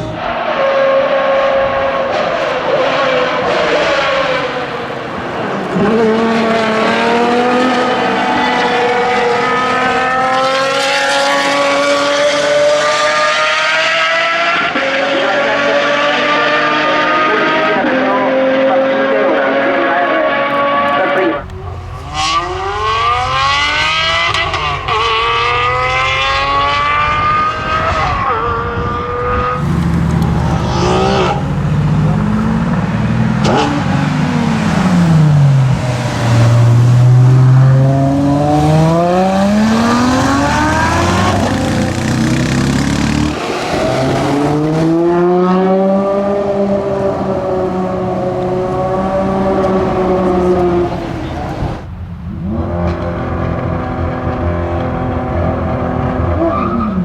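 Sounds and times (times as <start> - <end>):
car engine revving through upshifts: 0.0 - 57.0.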